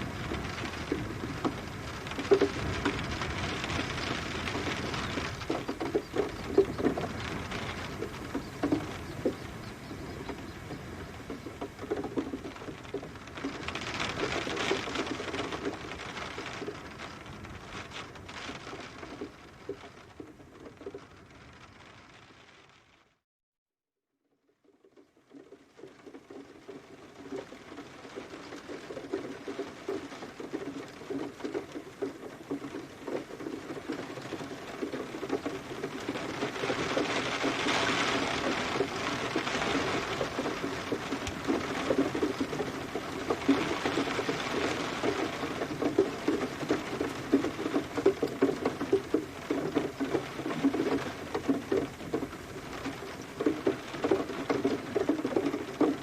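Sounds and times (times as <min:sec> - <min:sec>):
rain falling: 0:00.0 - 0:23.1, 0:24.6 - 0:56.0.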